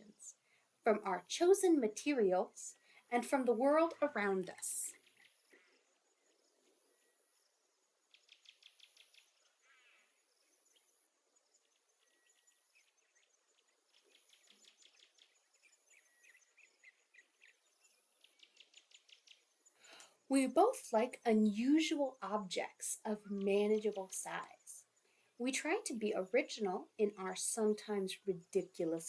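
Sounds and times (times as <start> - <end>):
faint high-pitched chirps and trills: 0.0 - 29.0.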